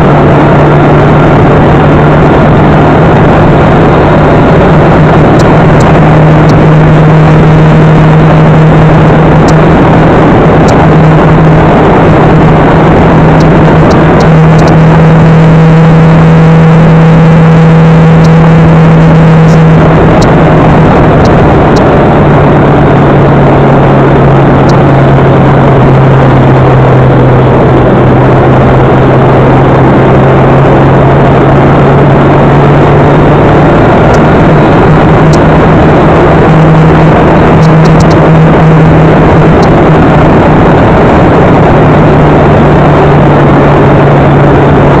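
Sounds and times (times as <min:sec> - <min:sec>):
motorcycle engine cruising: 0:00.0 - 0:45.0
wind noise on microphone: 0:00.0 - 0:45.0.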